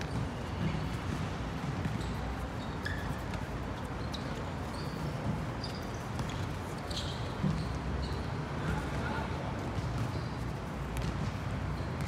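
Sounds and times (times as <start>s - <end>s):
shoe squeaks: 0.0s - 8.8s, 10.0s - 10.8s
ball kicked and bouncing on hard court: 0.0s - 8.9s, 9.6s - 12.0s.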